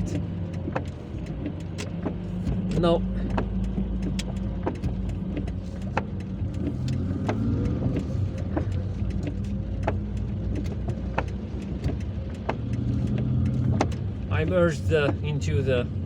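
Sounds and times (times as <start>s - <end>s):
car engine and road noise: 0.0s - 16.0s
heavy rain hitting car roof: 0.0s - 16.0s.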